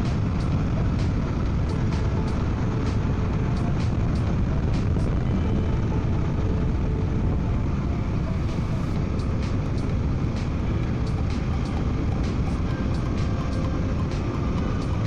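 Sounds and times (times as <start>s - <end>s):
motorcycle engine running: 0.0s - 15.0s
wind rush on helmet mic: 0.0s - 15.0s.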